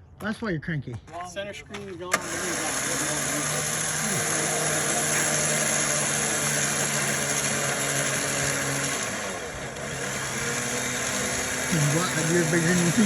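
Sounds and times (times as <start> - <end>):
vehicle engine running: 2.1 - 13.0.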